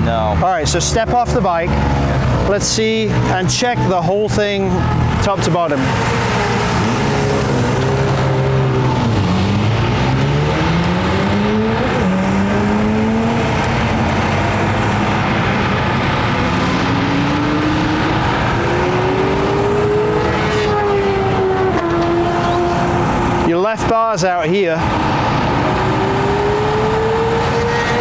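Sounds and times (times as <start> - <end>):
racing motorcycle engines accelerating: 0.0 - 28.0.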